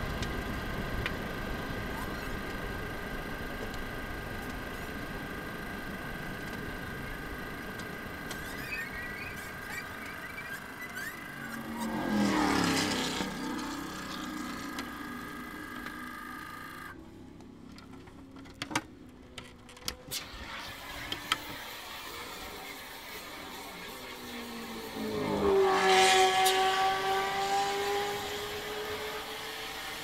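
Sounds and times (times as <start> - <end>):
racing car engine running: 0.0 - 30.0.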